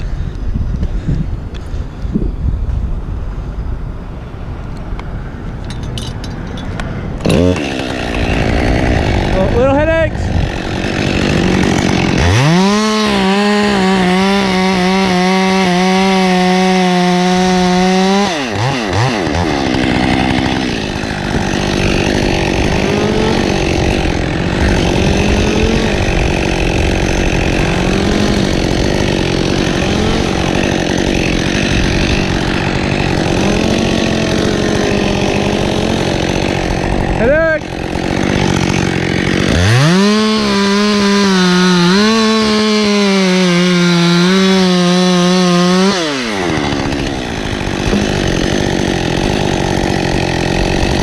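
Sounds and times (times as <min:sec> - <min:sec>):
chainsaw revving and cutting wood: 0:05.8 - 0:51.0.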